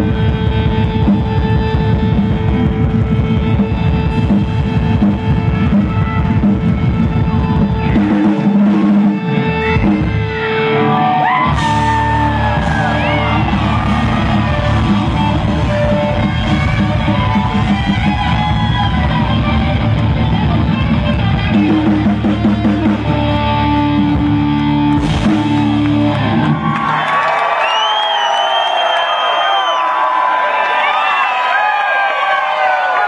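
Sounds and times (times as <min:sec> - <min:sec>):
electric guitar bending notes: 0:00.0 - 0:26.8
hard rock band playing: 0:00.0 - 0:27.0.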